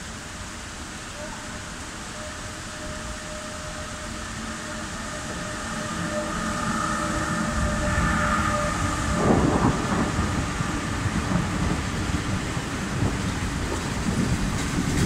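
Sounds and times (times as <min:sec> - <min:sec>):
electric locomotive whine: 0:00.0 - 0:15.0.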